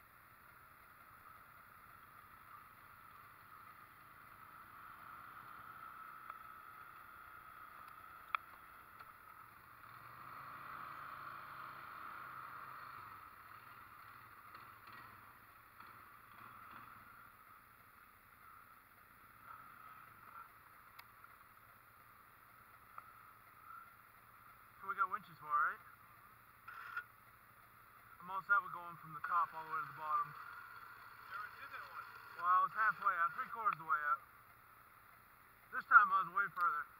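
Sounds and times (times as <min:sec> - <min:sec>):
faint atv engine hum: 0:00.0 - 0:36.9.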